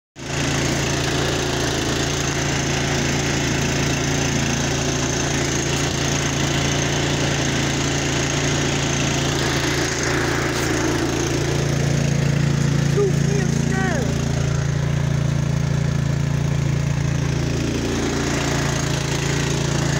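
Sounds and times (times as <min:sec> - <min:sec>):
snow blower engine running: 0:00.2 - 0:19.9.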